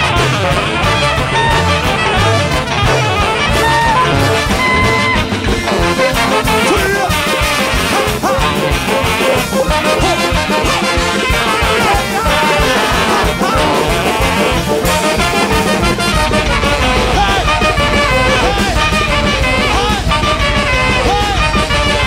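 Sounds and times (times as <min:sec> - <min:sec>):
big band playing jazz: 0:00.0 - 0:22.0
busy drum beat: 0:00.0 - 0:22.0.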